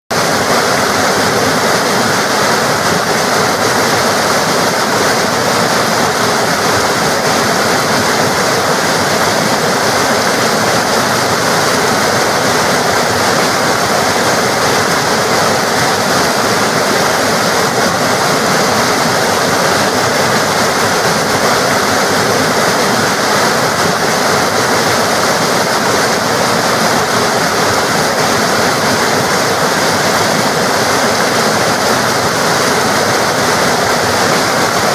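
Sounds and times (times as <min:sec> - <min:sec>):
water rushing and splashing: 0:00.1 - 0:34.9.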